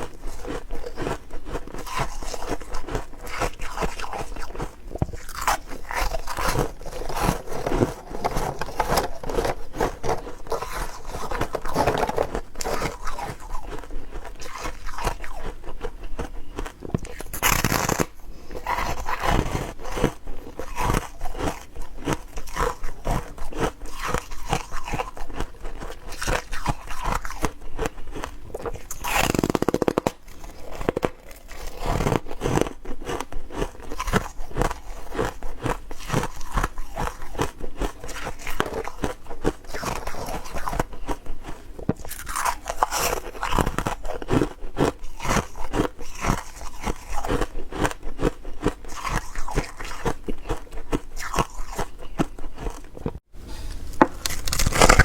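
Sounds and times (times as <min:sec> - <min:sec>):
person crunching ice: 0:00.0 - 0:55.0.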